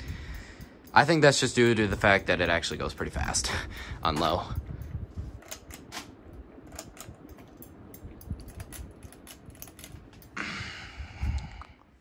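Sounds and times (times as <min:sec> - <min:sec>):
ceiling fan clicking and whirring: 0:00.0 - 0:12.0.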